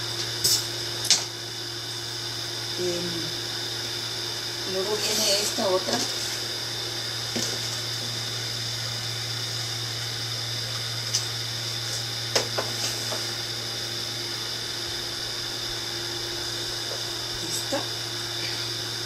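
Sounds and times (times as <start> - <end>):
appliance motor hum and whine: 0.0 - 19.0.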